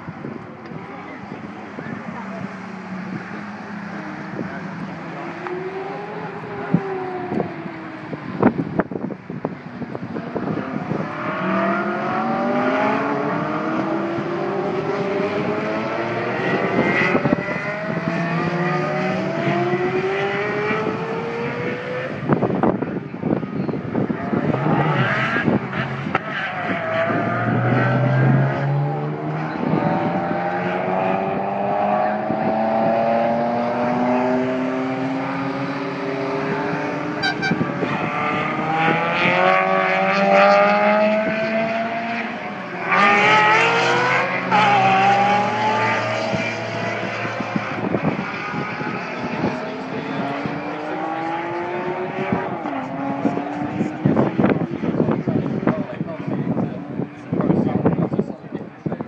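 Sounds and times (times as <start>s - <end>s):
wind buffeting microphone: 0.0s - 42.1s, 43.0s - 59.0s
sports car engines accelerating: 0.0s - 59.0s.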